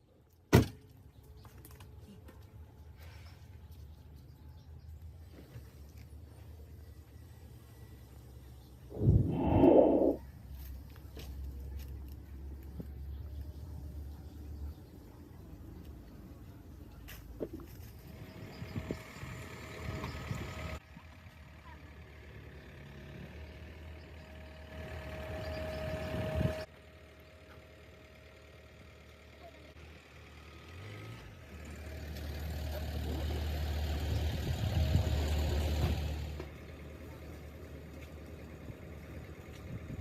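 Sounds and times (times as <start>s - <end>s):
vehicle engine running: 1.1s - 40.0s.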